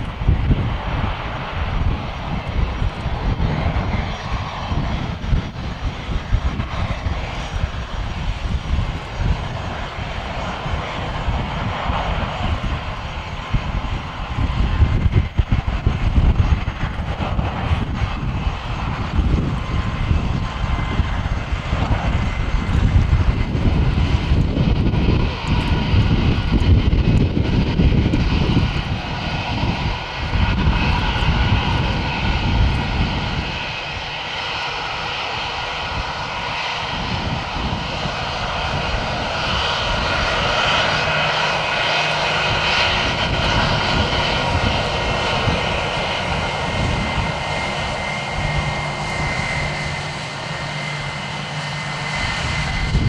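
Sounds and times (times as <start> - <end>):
jet engines whining: 0.0 - 53.0
wind buffeting microphone: 0.0 - 53.0.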